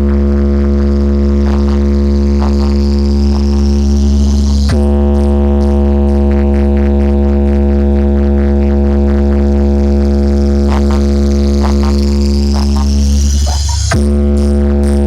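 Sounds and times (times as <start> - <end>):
loud low bass drone: 0.0 - 15.0.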